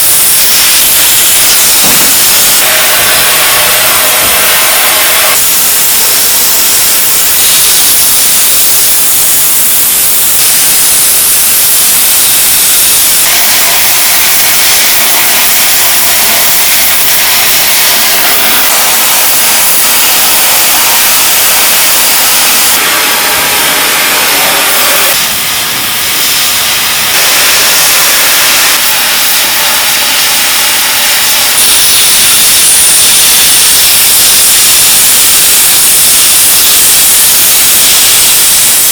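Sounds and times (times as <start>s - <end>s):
loud dense hiss: 0.0s - 38.9s.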